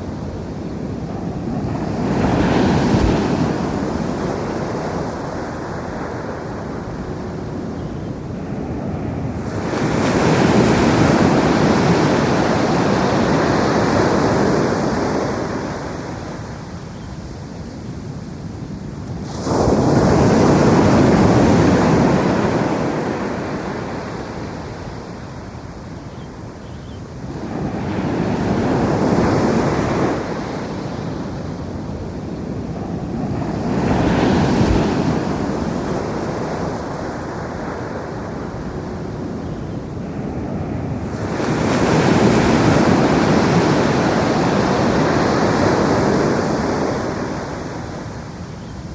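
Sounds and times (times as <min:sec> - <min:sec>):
waves crashing on beach: 0:00.0 - 0:48.9.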